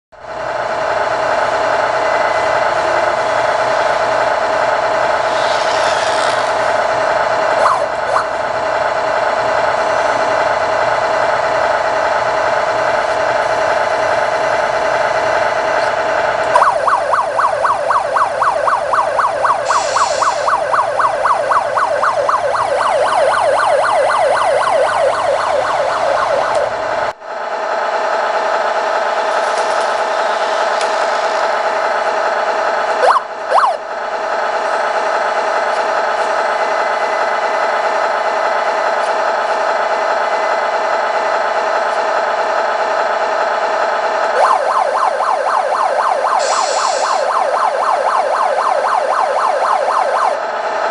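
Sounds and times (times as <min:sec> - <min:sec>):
electronic police siren: 0:00.6 - 0:27.2, 0:28.2 - 0:50.9.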